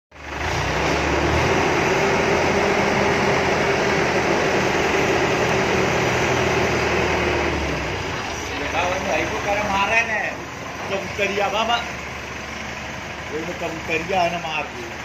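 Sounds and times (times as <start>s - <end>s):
forklift mechanical drone: 0.1s - 15.0s.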